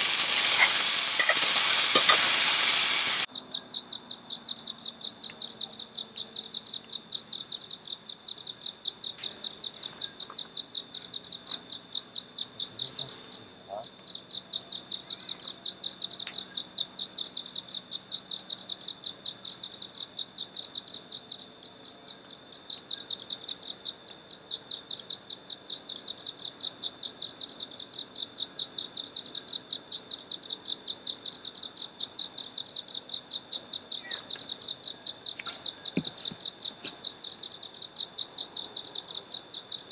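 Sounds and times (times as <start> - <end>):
high-pitched insect buzz: 0.0 - 39.9
insects chirping: 0.0 - 39.9.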